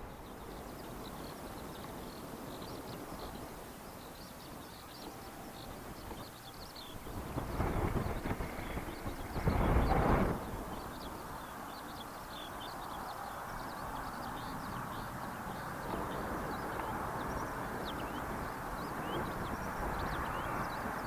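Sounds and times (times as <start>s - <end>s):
distant jet engines rushing: 0.0s - 21.0s
small birds chirping: 0.0s - 21.0s.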